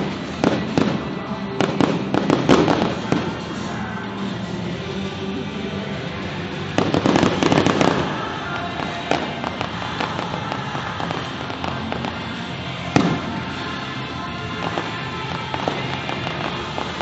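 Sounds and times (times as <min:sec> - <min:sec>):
fireworks bangs and crackle: 0:00.0 - 0:17.0.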